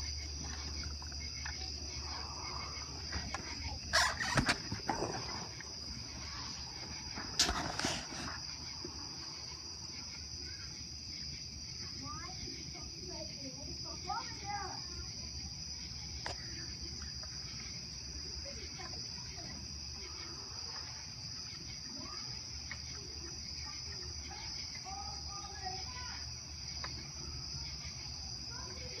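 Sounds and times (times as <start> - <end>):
night insect chorus: 0.0 - 29.0.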